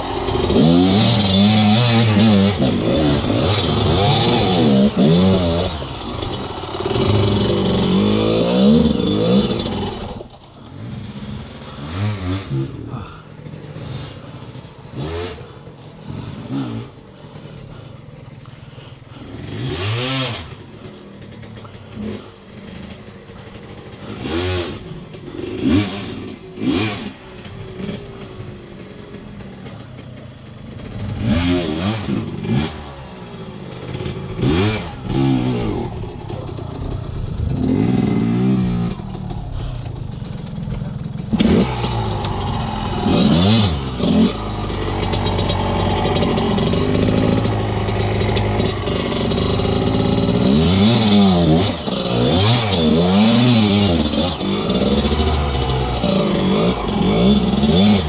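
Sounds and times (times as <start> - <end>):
dirt bike engine revving: 0.0 - 58.0
engine clatter: 0.0 - 58.0.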